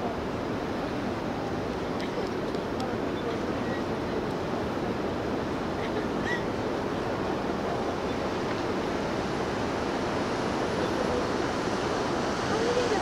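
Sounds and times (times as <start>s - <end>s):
water churning around hull: 0.0s - 13.0s.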